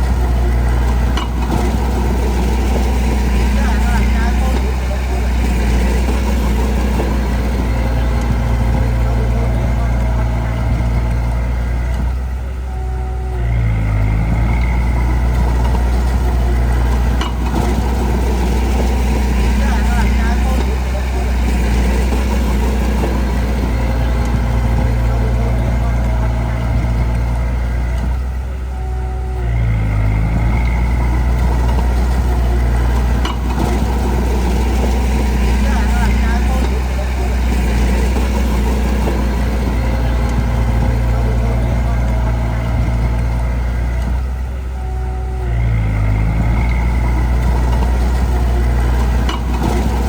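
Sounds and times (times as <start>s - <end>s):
diesel engine running and revving: 0.0s - 50.0s.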